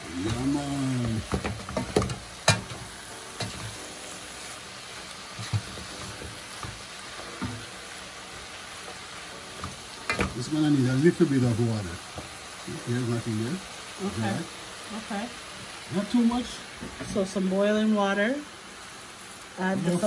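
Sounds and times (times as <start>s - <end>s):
vegetables sizzling in pot: 0.0s - 20.0s.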